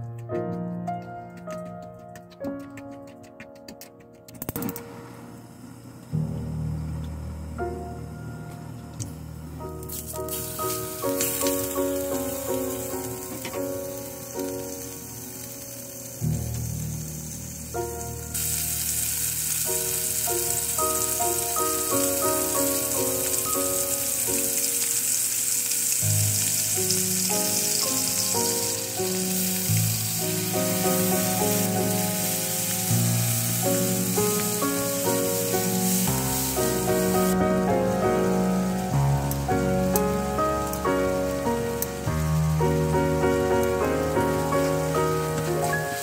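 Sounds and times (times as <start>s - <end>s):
food sizzling in a wok: 5.4s - 46.0s.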